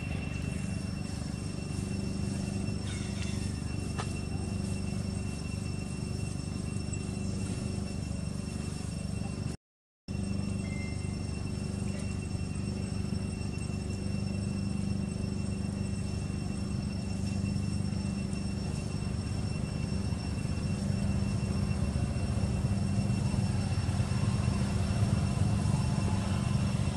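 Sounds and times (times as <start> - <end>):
faint high-pitched tones: 0.0 - 26.9
vehicle engine hum: 0.0 - 26.9.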